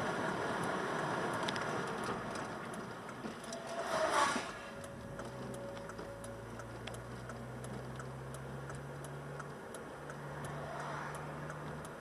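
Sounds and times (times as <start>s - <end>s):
faint regular ticking: 0.0s - 3.7s, 4.7s - 12.0s
car engine and road hum: 0.0s - 12.0s.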